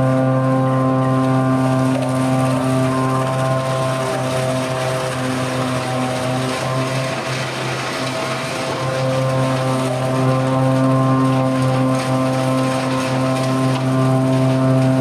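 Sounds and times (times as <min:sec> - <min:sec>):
tractor wood chipper droning: 0:00.0 - 0:15.0.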